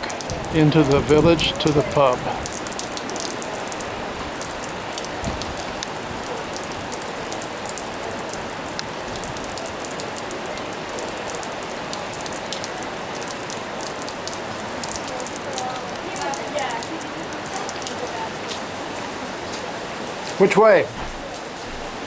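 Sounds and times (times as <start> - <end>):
pouring rain: 0.0 - 22.0
raindrops ticking near microphone: 0.0 - 22.0.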